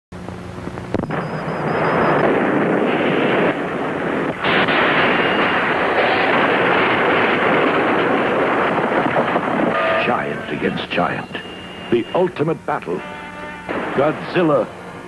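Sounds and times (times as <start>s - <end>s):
sharp crack: 0.7s - 12.3s, 13.6s - 14.7s.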